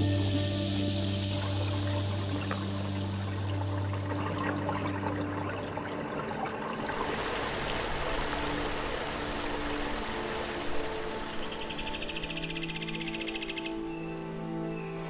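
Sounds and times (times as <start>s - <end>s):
stream water burbling over stones: 0.8s - 15.0s.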